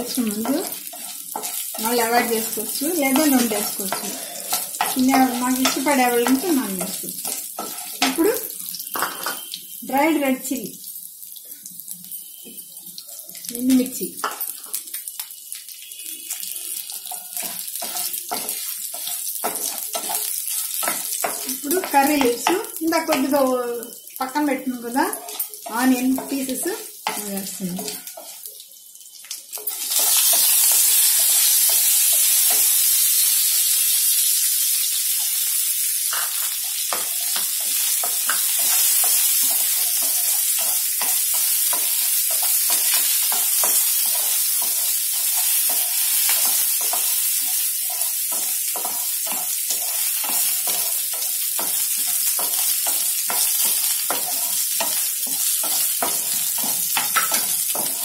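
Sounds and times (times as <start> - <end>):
onions sizzling in oil: 0.0 - 58.0.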